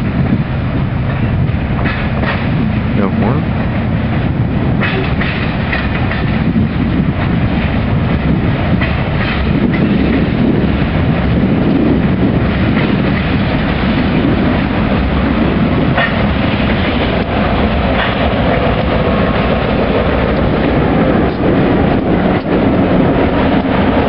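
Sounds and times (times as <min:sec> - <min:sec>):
freight train rumbling past: 0:00.0 - 0:24.0
wheels clicking over rail joints: 0:01.0 - 0:02.8, 0:03.5 - 0:24.0.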